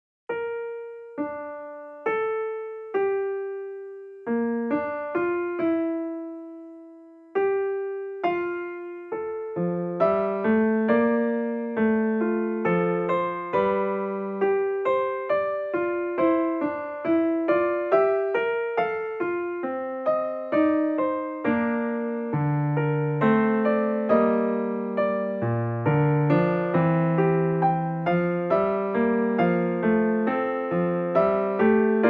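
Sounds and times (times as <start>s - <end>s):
gentle piano melody: 0.3s - 32.0s.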